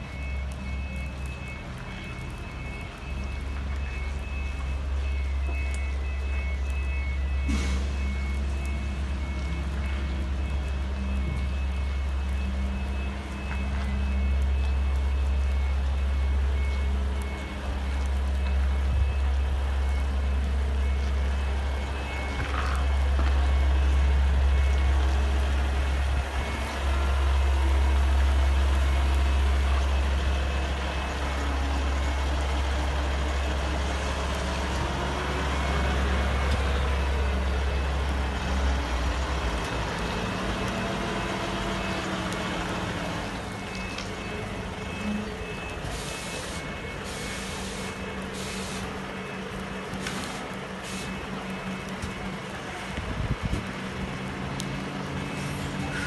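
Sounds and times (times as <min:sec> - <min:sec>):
vehicle warning beeper: 0:00.0 - 0:38.9, 0:39.5 - 0:56.0
diesel truck engine rumble: 0:00.0 - 0:56.0.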